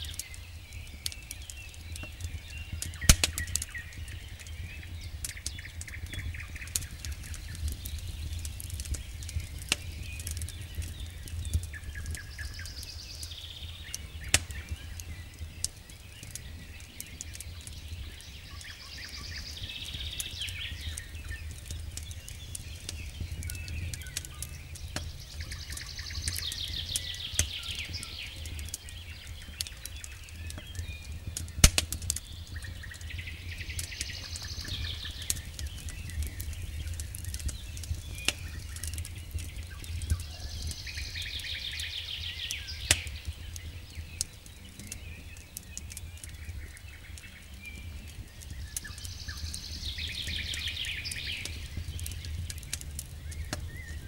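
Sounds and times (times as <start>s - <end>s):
bird singing trilled phrases: 0.0s - 54.0s
campfire crackling and popping: 0.0s - 54.0s.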